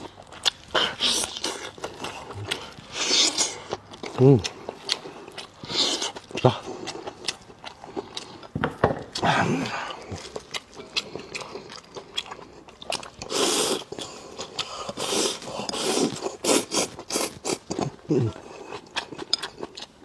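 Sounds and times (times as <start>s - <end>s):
chewing with wet mouth clicks: 0.0s - 20.0s.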